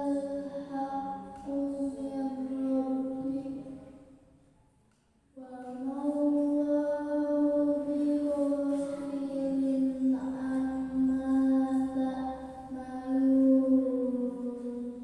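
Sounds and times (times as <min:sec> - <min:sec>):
girl reciting melodically: 0:00.0 - 0:04.2, 0:05.3 - 0:15.0.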